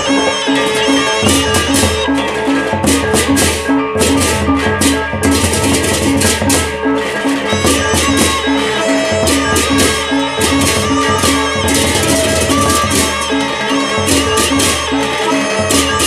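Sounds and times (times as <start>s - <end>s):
clashing hand cymbals: 0.0s - 16.0s
large drums beaten: 0.0s - 16.0s.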